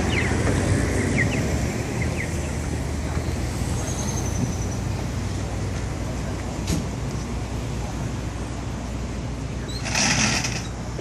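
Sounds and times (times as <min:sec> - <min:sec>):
cars passing with engine rumble: 0:00.0 - 0:11.0.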